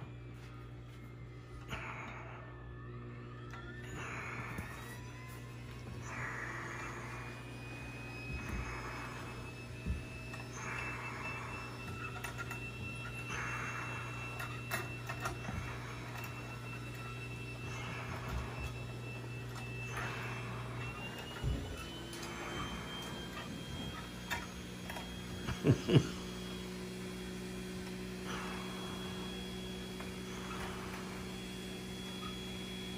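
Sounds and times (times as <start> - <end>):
low hum: 0.0 - 32.9
thin high whine: 0.0 - 32.9.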